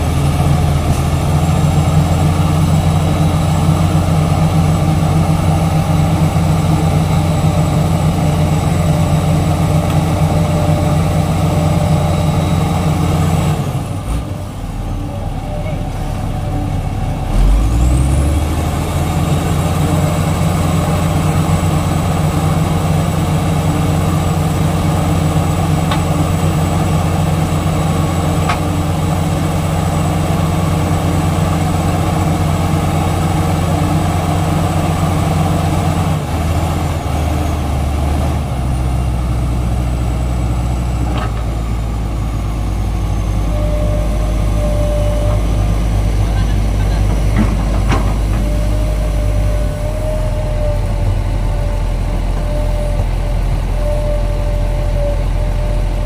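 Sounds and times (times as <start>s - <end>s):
heavy diesel engines under load: 0.0s - 56.0s
high engine whine: 0.0s - 56.0s.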